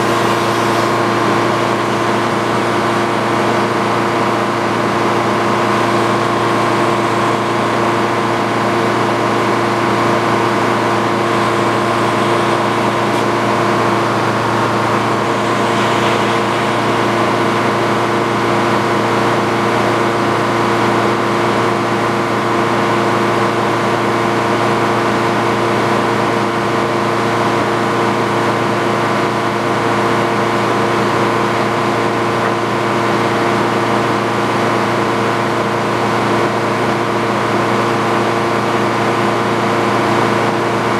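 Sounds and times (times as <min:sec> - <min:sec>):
sawmill engine running steadily: 0:00.0 - 0:40.9.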